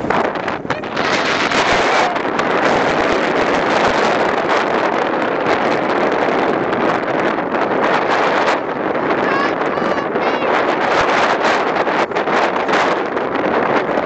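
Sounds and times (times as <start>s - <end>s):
wind blowing on microphone: 0.0s - 14.0s.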